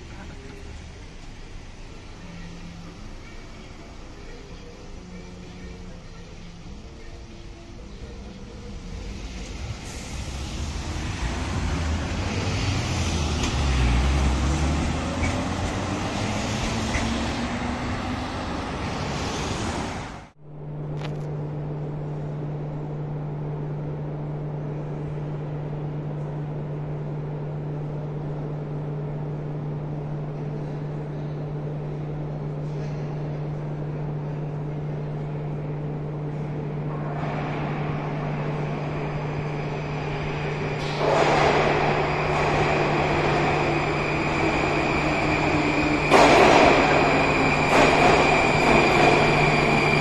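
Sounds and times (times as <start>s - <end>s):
tram motor whine: 0.0s - 50.0s.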